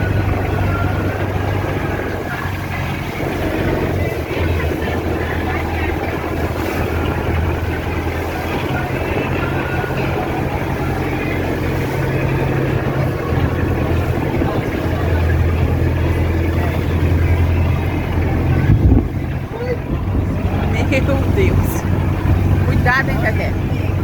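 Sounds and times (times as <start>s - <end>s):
motorboat engine humming: 0.0s - 24.0s
water rushing: 0.0s - 24.0s
wind: 0.0s - 24.0s.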